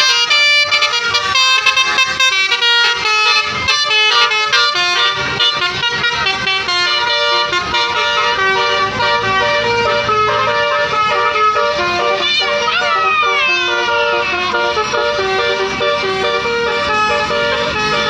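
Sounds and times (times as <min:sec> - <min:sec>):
bus air horns playing melodic notes: 0:00.0 - 0:18.0.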